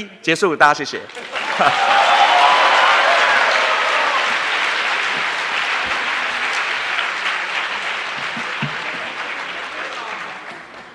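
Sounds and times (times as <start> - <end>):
audience applauding: 1.1 - 10.9.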